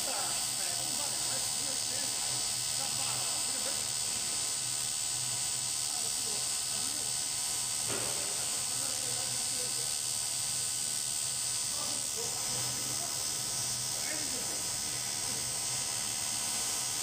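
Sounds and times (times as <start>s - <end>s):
welding arc buzzing: 0.0s - 17.0s.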